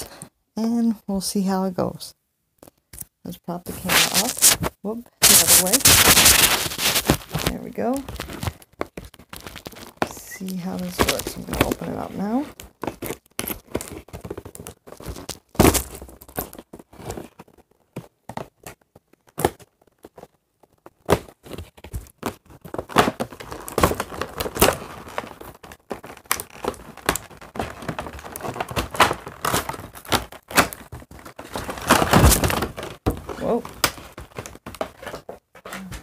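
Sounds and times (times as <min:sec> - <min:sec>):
packaging crinkling and tearing: 0:03.8 - 0:36.0.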